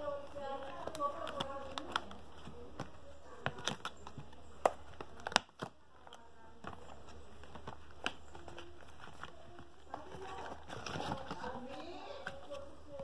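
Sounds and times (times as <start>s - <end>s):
packaging crinkling and clicking: 0.0s - 13.0s
packaging snaps: 0.2s - 13.0s.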